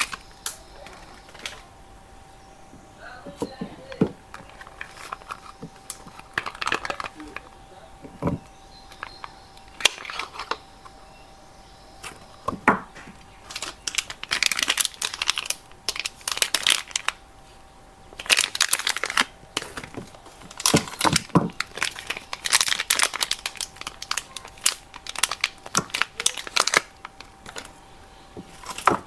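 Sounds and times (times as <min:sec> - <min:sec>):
soap wrappers crinkling and tearing: 0:00.0 - 0:01.8, 0:03.4 - 0:10.9, 0:12.0 - 0:17.2, 0:18.2 - 0:29.0.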